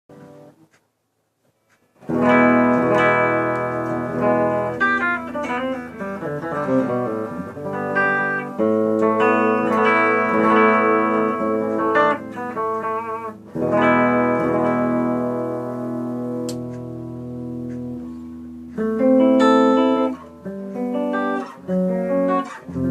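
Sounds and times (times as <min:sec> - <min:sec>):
clean electric guitar strumming: 0:02.0 - 0:22.9.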